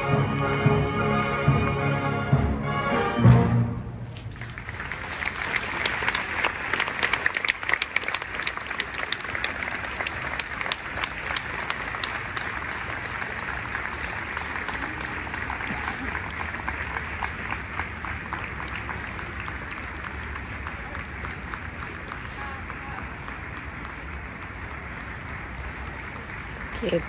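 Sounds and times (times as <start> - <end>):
audience applauding: 4.3 - 27.0.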